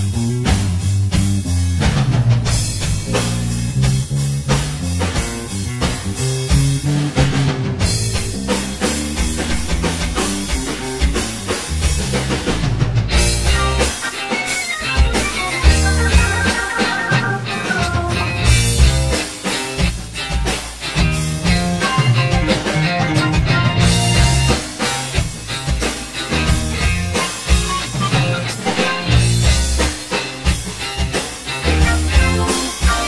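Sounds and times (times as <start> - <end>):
rock music: 0.0 - 33.0.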